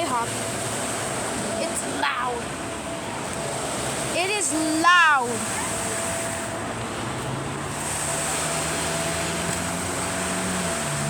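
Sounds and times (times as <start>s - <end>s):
car wash machinery rushing: 0.0s - 11.0s
low motor hum: 0.0s - 11.0s.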